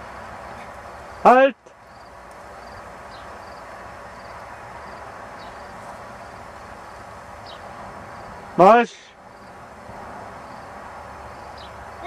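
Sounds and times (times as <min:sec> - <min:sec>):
high insect chirps: 0:00.0 - 0:12.0
outdoor field background noise: 0:00.0 - 0:12.0.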